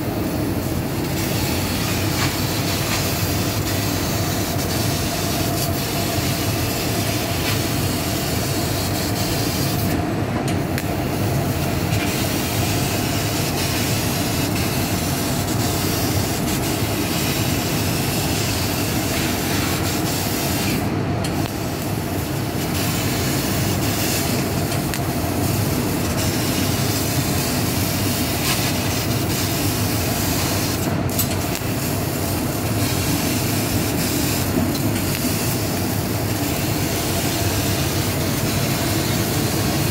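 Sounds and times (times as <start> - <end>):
constant machine tone: 0.0 - 39.9
laser cutter hiss and whir: 0.0 - 39.9.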